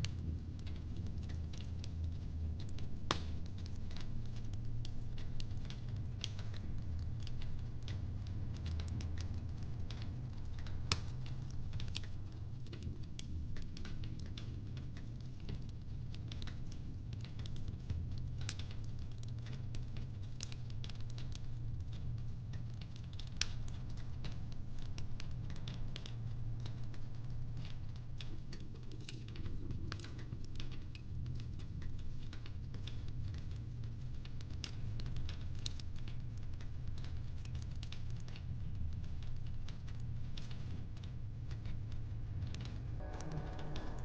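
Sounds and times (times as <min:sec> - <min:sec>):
fireplace crackling: 0:00.0 - 0:41.2.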